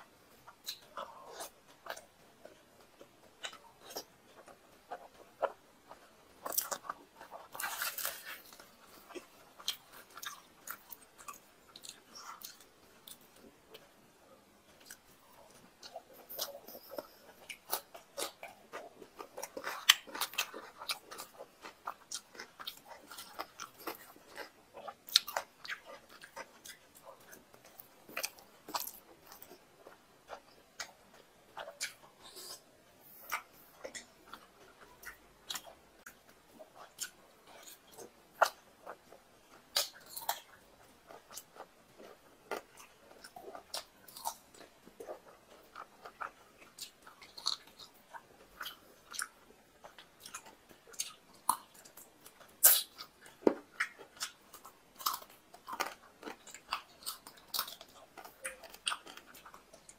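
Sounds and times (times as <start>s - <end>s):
chewing and mouth sounds: 0.0s - 59.9s.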